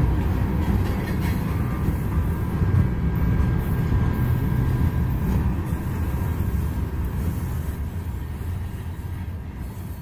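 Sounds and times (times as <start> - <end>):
steel wheels rumbling on rail: 0.0 - 10.0.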